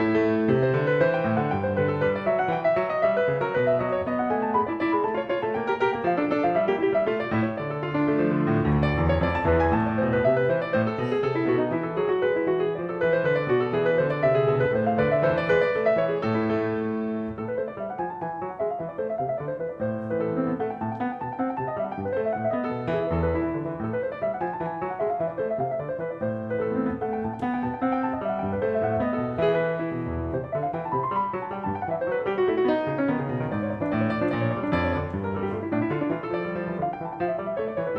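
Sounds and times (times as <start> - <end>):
calm piano music: 0.0 - 37.9.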